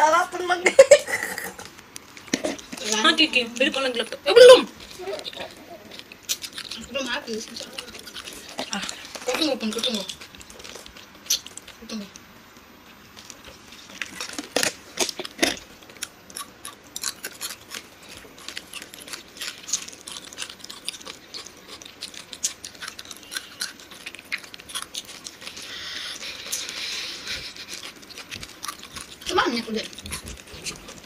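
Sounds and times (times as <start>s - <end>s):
candy crunching: 1.2s - 12.1s, 13.1s - 31.0s.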